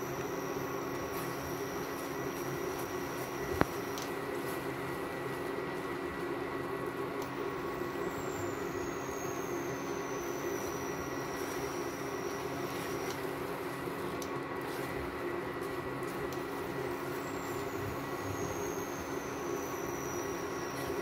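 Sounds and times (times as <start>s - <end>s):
faint high whine: 0.0s - 21.0s
steady mechanical hum: 0.0s - 21.0s.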